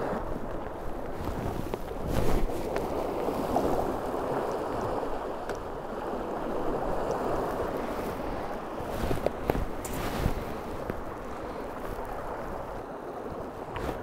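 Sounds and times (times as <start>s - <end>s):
waves washing over rocks: 0.0s - 14.0s.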